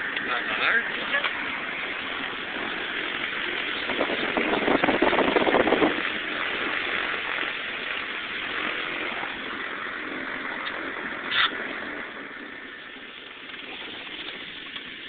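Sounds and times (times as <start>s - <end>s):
piston aircraft engines in cabin: 0.0s - 15.0s.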